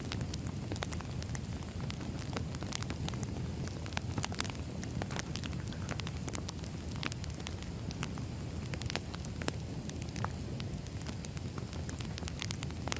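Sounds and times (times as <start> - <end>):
firewood crackling and popping: 0.0 - 12.9.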